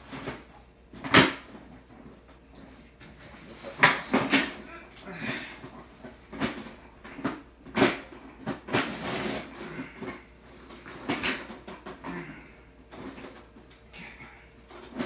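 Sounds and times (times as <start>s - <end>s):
knocks and clunks of prop handling: 0.0s - 15.0s.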